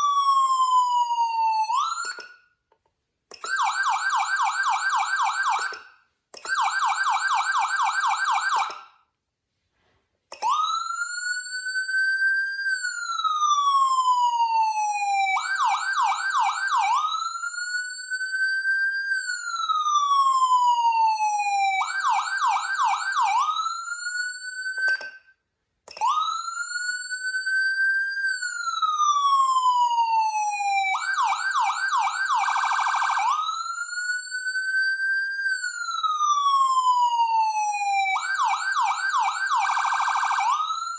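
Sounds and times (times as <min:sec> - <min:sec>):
electronic siren yelp and wail: 0:00.0 - 0:02.4, 0:03.4 - 0:05.8, 0:06.5 - 0:08.9, 0:10.4 - 0:25.1, 0:26.0 - 0:40.9.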